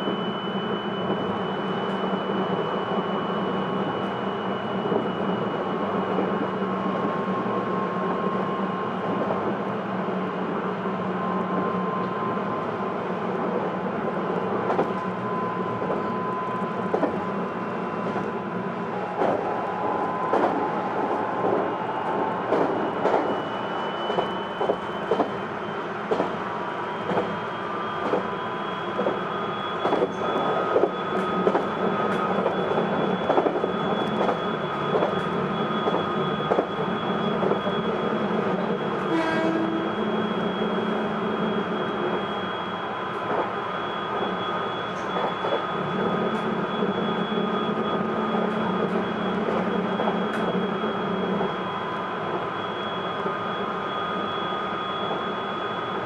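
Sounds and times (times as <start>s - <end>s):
electric train motor whine: 0.0s - 56.0s
train rolling noise: 0.0s - 56.0s.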